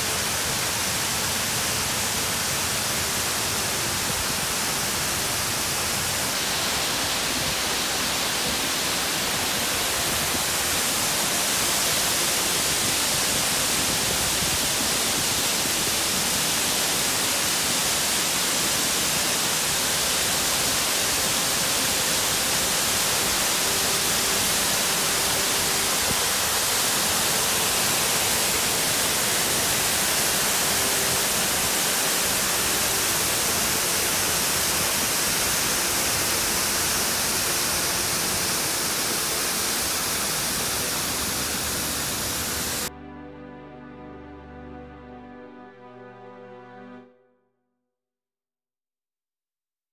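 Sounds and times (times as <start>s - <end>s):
waterfall pouring over rocks: 0.0s - 42.9s.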